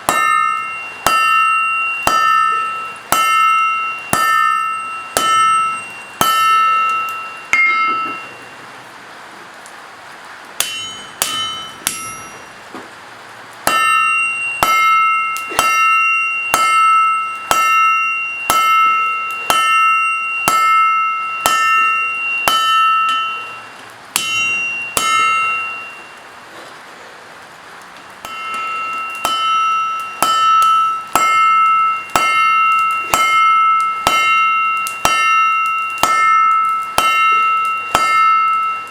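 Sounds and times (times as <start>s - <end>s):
hammer striking steel on anvil: 0.0s - 8.6s, 10.6s - 12.9s, 13.6s - 26.6s, 28.2s - 38.9s.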